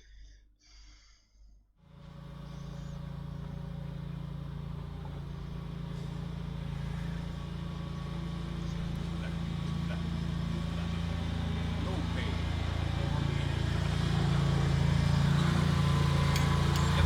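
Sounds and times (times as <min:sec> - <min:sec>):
low mechanical hum: 0:01.8 - 0:17.0.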